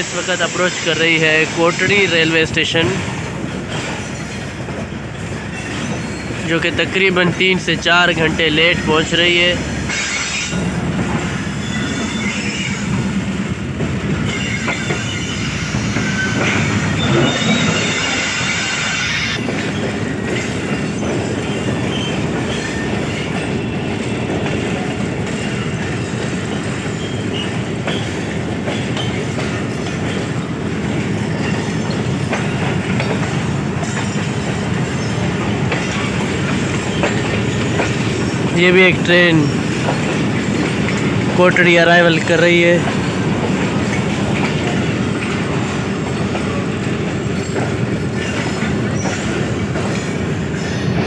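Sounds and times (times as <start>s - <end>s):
high wheel squeal: 0.0s - 51.0s
train rumbling on track: 0.0s - 51.0s.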